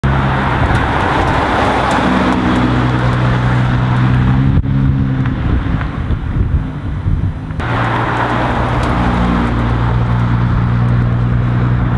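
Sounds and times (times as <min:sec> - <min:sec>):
loud car engine and exhaust: 0:00.0 - 0:11.9.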